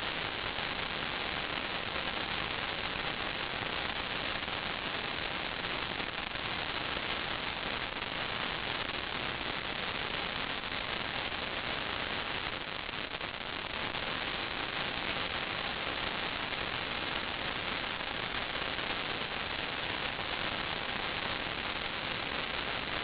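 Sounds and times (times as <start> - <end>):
steady static hiss: 0.0 - 23.0.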